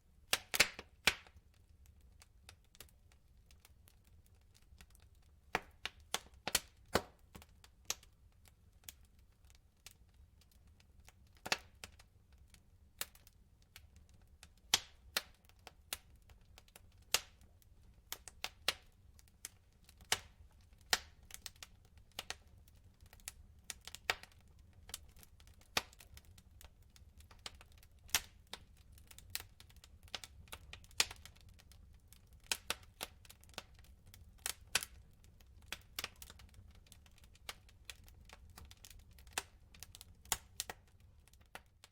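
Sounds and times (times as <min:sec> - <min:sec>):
wood fire crackling and popping: 0:00.2 - 0:41.9.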